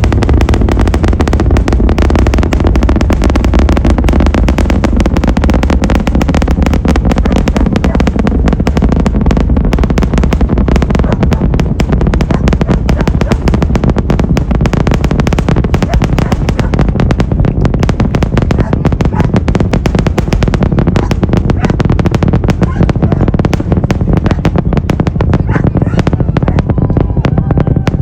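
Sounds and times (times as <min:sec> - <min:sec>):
rocket engine crackling roar: 0:00.0 - 0:28.0.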